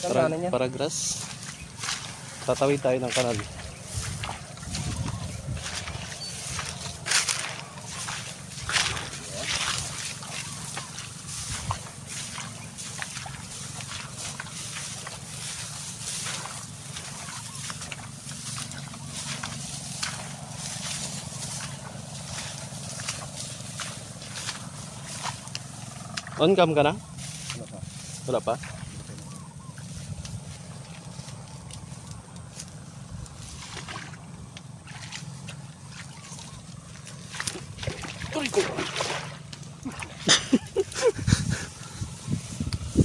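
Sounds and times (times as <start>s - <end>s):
footsteps through tall grass: 0.0s - 43.0s
steady low hum: 0.0s - 43.0s
grass stalks swishing: 0.9s - 34.2s, 36.0s - 43.0s.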